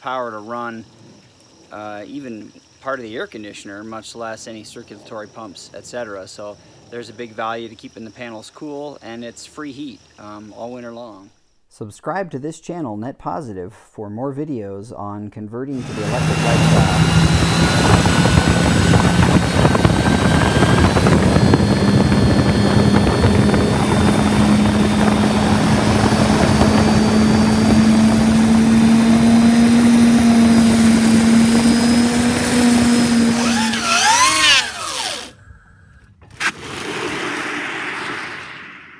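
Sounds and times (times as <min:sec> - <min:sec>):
wind: 0:00.0 - 0:11.3, 0:15.7 - 0:38.9
electric motor hum: 0:00.1 - 0:11.3, 0:15.8 - 0:36.1.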